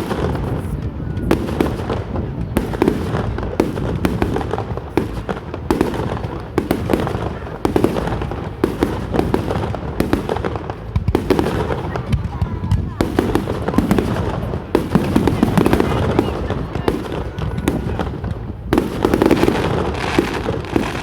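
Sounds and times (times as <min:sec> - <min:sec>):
continuous fireworks rumble: 0:00.0 - 0:21.0
fireworks bangs and crackles: 0:00.0 - 0:21.0.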